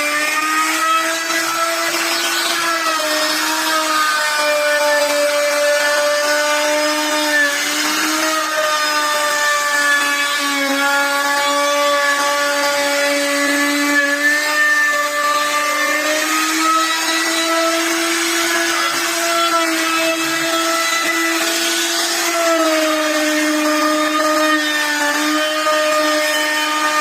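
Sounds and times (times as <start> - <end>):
power tool whining on wood: 0.0 - 27.0.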